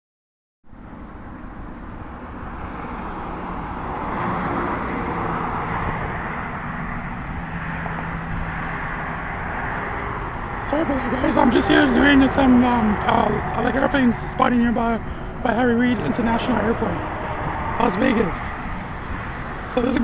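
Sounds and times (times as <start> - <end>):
jet engine roar: 0.7 - 20.0.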